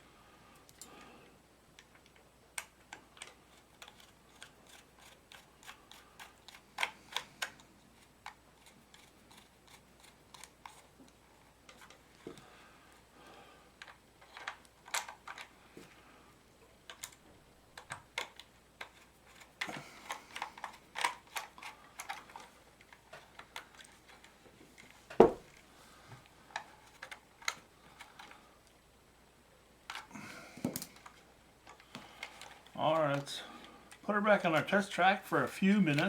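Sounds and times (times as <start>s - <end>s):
hands handling plastic model: 1.8s - 13.1s, 13.8s - 15.9s, 16.8s - 28.7s, 29.8s - 36.0s.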